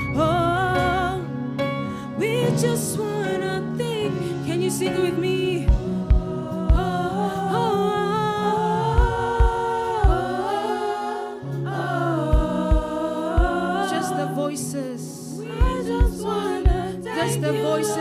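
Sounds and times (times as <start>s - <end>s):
low keyboard chords: 0.0s - 18.0s
vocal group singing gospel: 2.2s - 18.0s.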